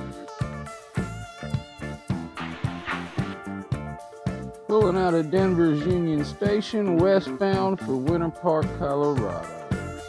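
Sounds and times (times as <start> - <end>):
music with steady beat and bass: 0.0 - 10.0.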